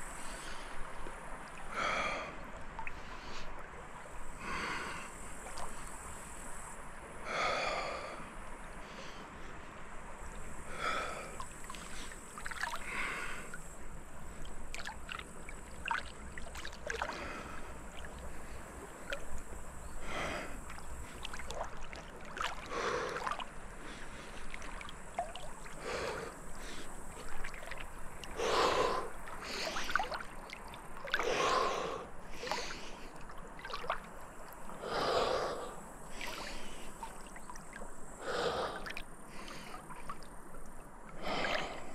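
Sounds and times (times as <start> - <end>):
paddle strokes splashing water: 0.0 - 8.0, 8.8 - 41.9.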